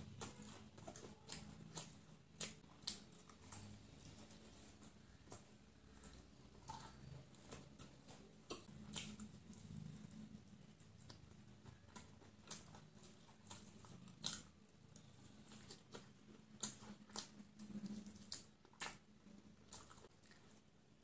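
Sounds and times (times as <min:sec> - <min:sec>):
chewing crispy fried chicken: 0:00.0 - 0:21.0.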